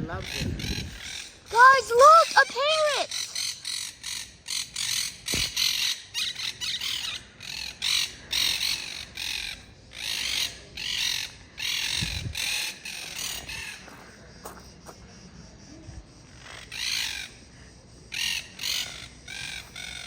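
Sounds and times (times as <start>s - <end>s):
parakeets squawking and chattering: 0.0s - 14.4s, 16.1s - 20.0s.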